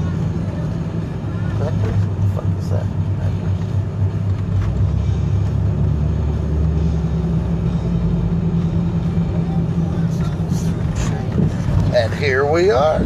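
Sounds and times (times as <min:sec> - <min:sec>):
van engine and road rumble: 0:00.0 - 0:13.0.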